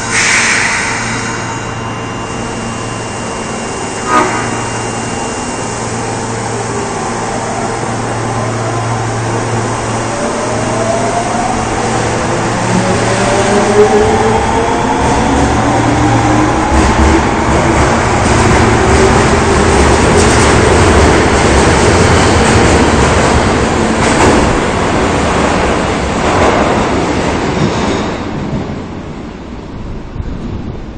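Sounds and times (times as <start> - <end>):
train running and wheel noise: 0.0 - 30.9.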